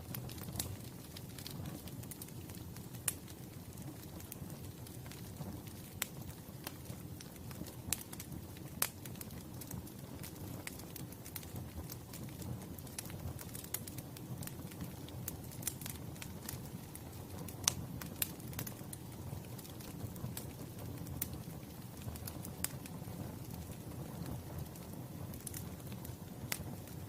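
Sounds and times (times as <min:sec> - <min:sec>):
fire low rumble: 0:00.0 - 0:27.0
wood fire crackling and popping: 0:00.0 - 0:27.0.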